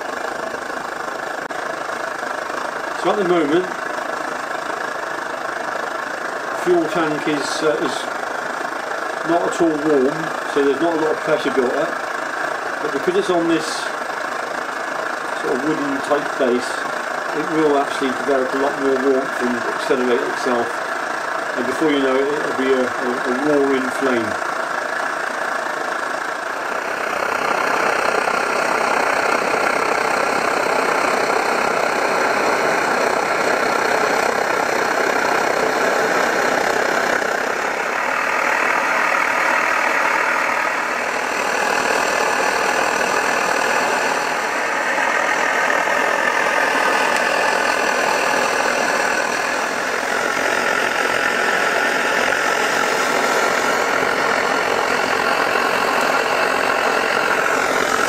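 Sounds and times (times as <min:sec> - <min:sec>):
stove burner hissing: 0:00.0 - 0:58.0.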